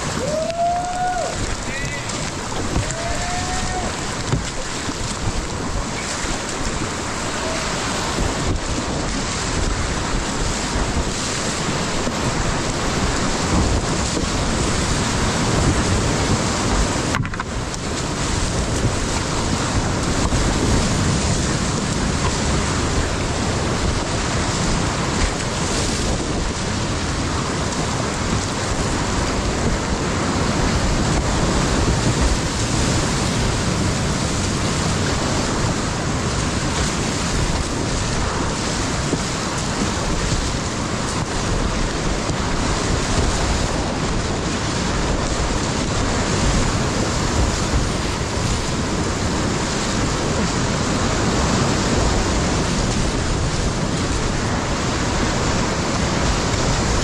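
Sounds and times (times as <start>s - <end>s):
whitewater rapids rushing: 0.0s - 57.0s.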